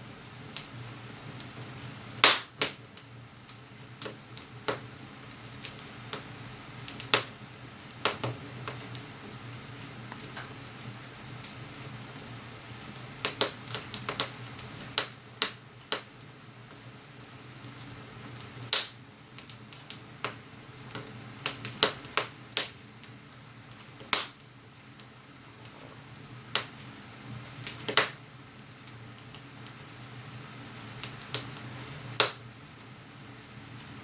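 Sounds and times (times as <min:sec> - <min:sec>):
faint steady hum: 0:00.0 - 0:34.0
wood fire crackling and popping: 0:00.0 - 0:34.0.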